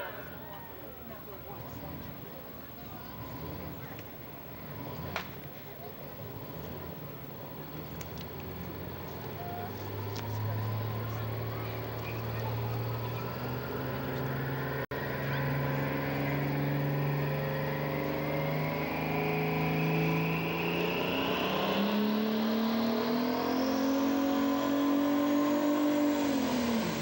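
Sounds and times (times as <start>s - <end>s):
diesel truck engine revving: 0.0s - 27.0s.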